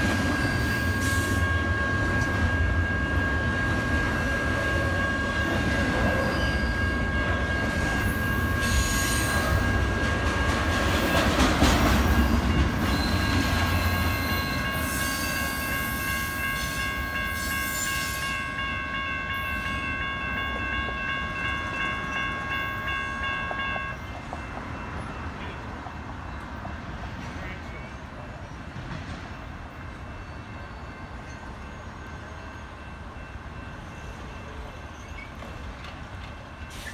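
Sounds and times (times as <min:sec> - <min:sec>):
crossing warning bells ringing: 0:00.0 - 0:36.9
freight train wheel noise: 0:00.0 - 0:36.9.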